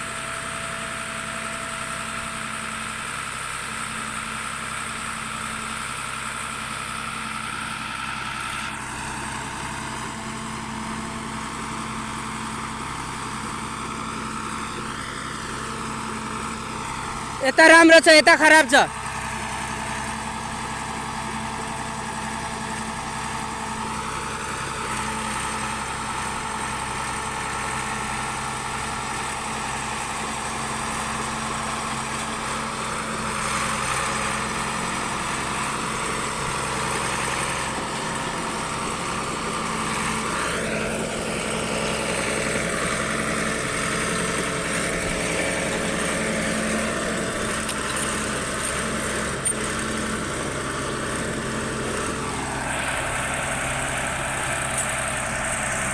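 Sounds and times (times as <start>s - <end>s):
drilling rig engine running: 0.0s - 55.9s.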